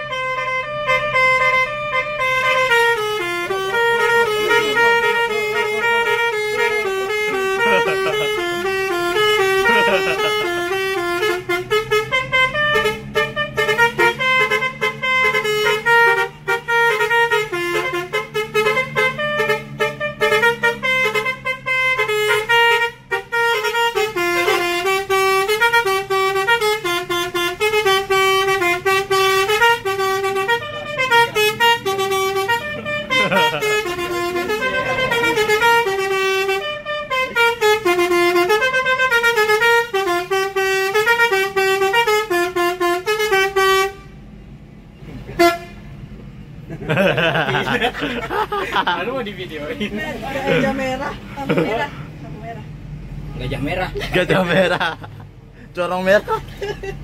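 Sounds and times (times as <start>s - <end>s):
melodic bus air horn: 0.0s - 44.6s, 45.2s - 46.2s, 50.1s - 52.2s.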